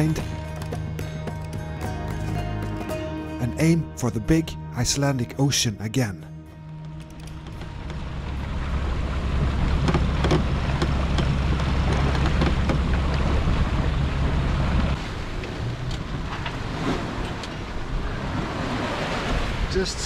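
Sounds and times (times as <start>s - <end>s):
water rushing along hull: 0.0s - 5.7s, 6.6s - 20.0s
strong low rumble: 0.0s - 18.7s.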